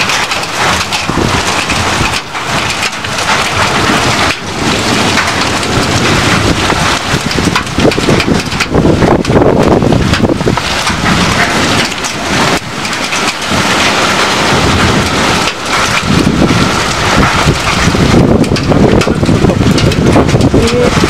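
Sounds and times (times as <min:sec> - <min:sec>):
heavy rain and hail: 0:00.0 - 0:21.0.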